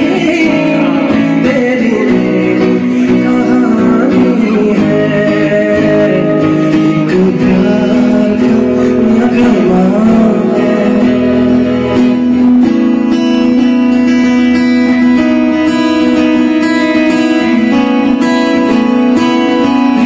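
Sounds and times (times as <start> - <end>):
man singing into a microphone: 0.0 - 13.6, 15.8 - 20.0
acoustic guitar: 0.0 - 20.0.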